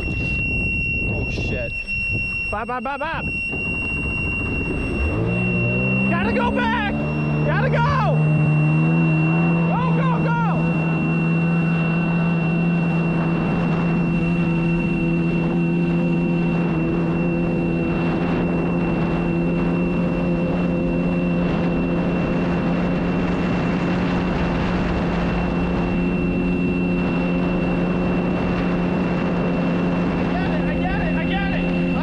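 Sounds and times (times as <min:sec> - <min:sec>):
high-pitched warning tone: 0:00.0 - 0:32.0
jet ski engine running: 0:00.0 - 0:32.0.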